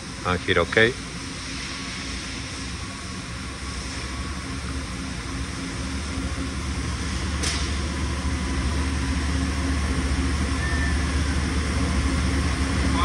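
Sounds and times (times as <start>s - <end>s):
low machinery hum with hiss: 0.0s - 13.0s.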